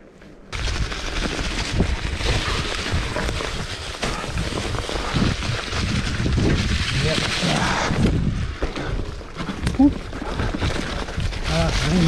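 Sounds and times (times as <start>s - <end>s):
bike tyres on rough trail: 0.0s - 12.0s
wind buffeting microphone: 0.5s - 12.0s.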